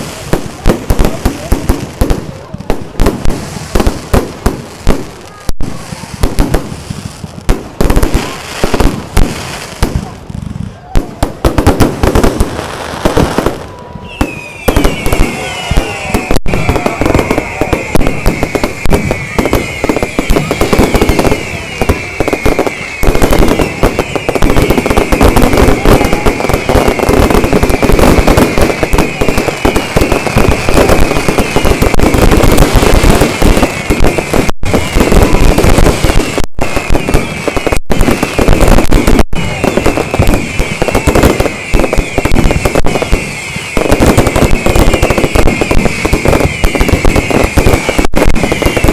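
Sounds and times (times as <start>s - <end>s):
fireworks bangs and crackles: 0.0s - 48.9s
fireworks falling whistles: 0.0s - 48.9s.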